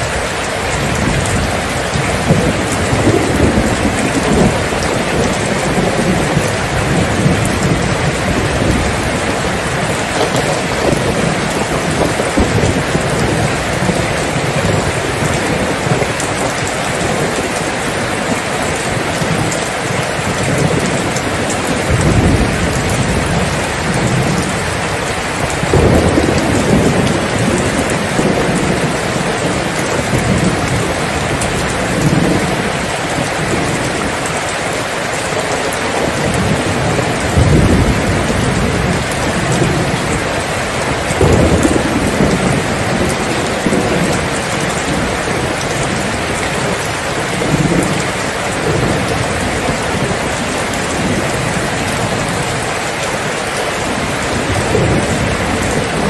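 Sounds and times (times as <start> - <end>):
steady rain falling: 0.0 - 56.0
thunder rumbling: 0.0 - 56.0.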